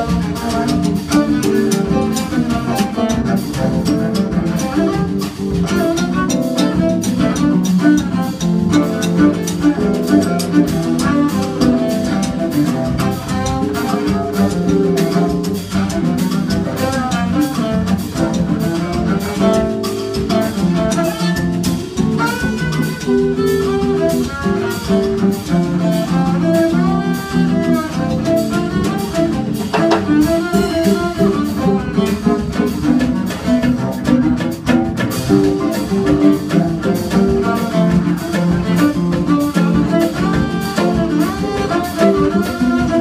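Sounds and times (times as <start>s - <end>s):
cello: 0.0s - 43.0s
drum and cymbal rhythm: 0.0s - 43.0s.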